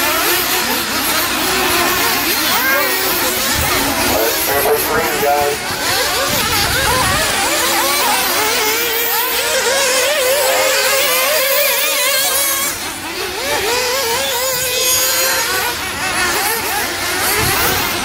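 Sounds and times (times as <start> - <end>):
rc car engines revving: 0.0 - 18.0.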